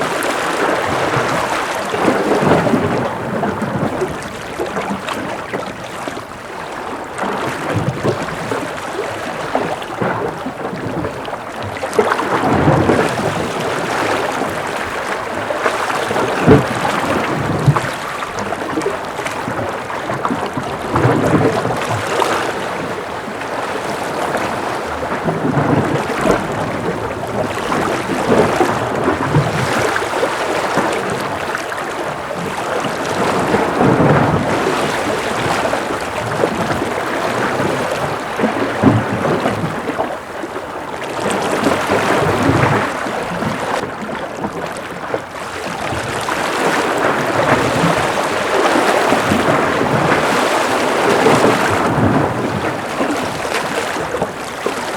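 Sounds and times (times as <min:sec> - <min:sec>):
ocean waves washing and splashing: 0:00.0 - 0:54.9.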